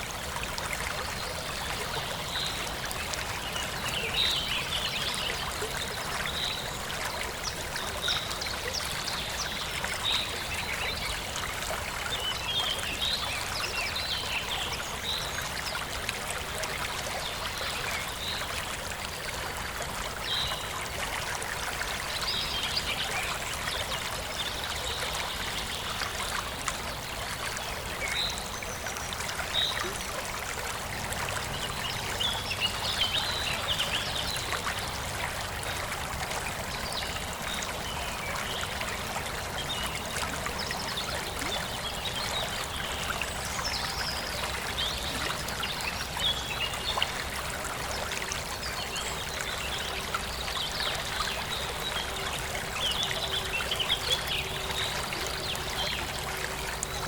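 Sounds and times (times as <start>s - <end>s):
stream flowing and trickling: 0.0s - 57.0s.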